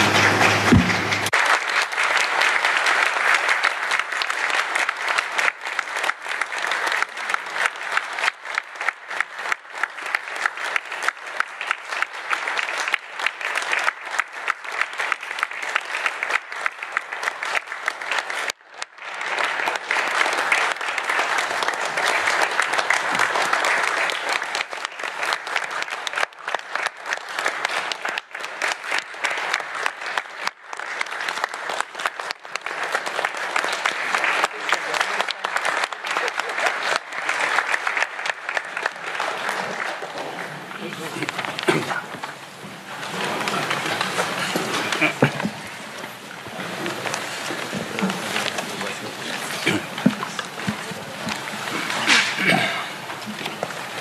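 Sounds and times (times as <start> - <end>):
crowd applauding: 0.0 - 54.0.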